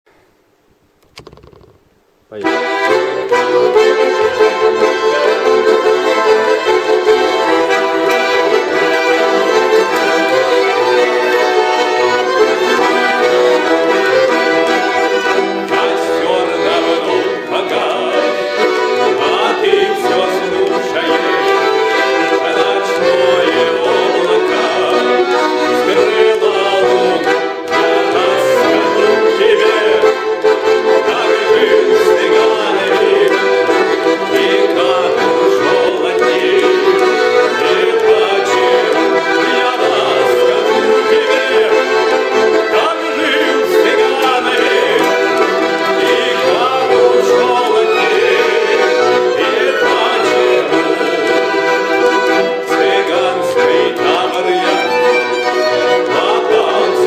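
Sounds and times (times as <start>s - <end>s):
accordion folk melody: 0.5s - 57.0s
violin: 2.4s - 57.0s.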